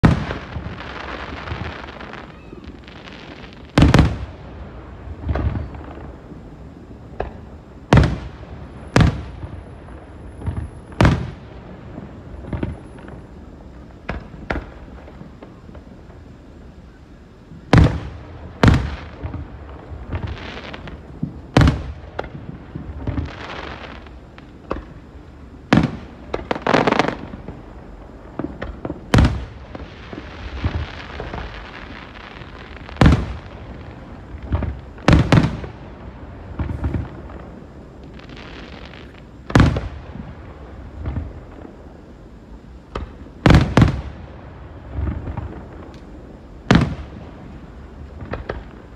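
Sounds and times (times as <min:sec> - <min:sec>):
fireworks booming: 0:00.0 - 0:48.9
fireworks crackling hiss: 0:00.0 - 0:48.9.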